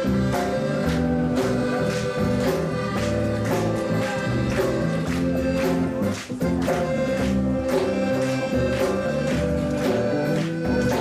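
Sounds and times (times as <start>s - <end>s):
live reggae band playing: 0.0s - 11.0s.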